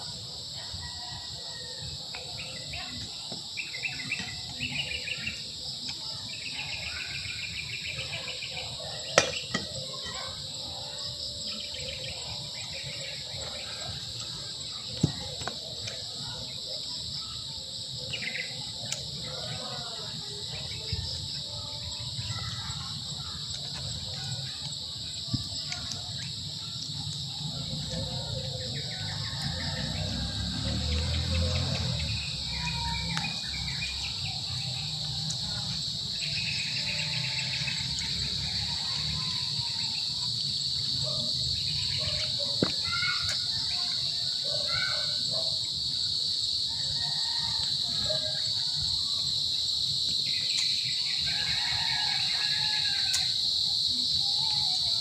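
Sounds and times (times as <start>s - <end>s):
crickets and insects droning: 0.0s - 55.0s.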